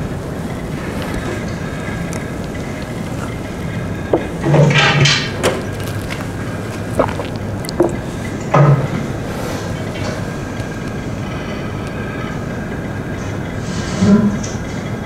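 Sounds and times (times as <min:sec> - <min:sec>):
wooden loom rumbling hiss: 0:00.0 - 0:15.0.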